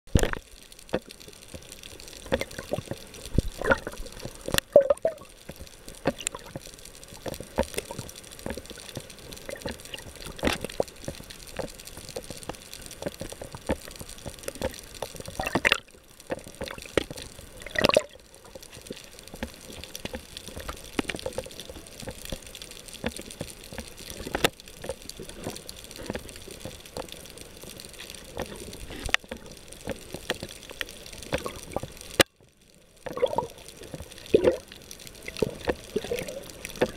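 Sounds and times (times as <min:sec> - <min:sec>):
sharp clicks and pops: 0:00.1 - 0:36.9
underwater water bubbling: 0:00.1 - 0:36.9.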